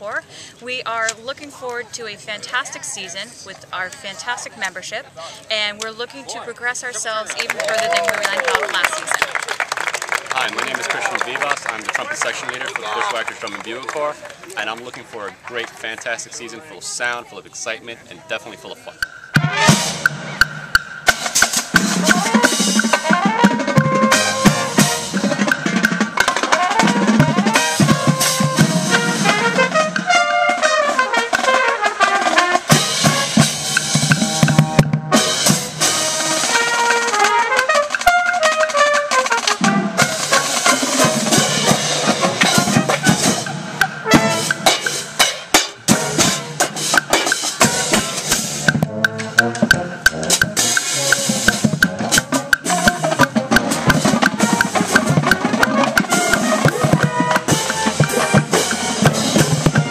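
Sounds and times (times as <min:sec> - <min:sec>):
brass horn line: 0:06.5 - 0:14.9, 0:18.6 - 0:20.4, 0:21.2 - 0:59.9
snare drums and cymbals: 0:10.3 - 0:59.9.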